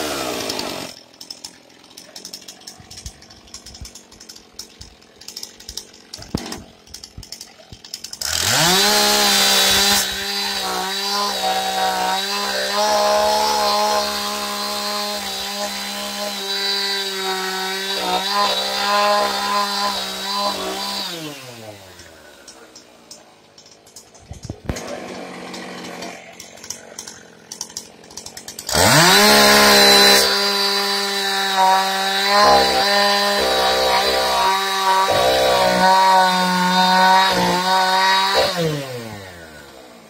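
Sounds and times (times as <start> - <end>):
chainsaw idling: 0.0 - 40.0
chainsaw sawing through log: 0.0 - 40.0.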